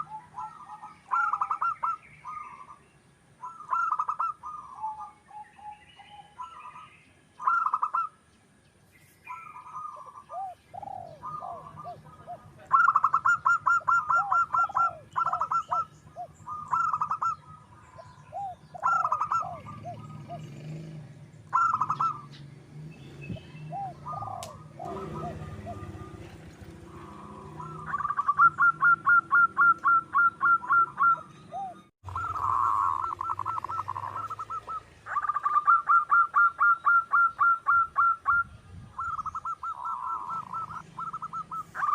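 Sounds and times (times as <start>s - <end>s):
doves cooing: 0.0s - 8.2s, 9.2s - 41.9s
doves stuttering song: 0.0s - 41.9s.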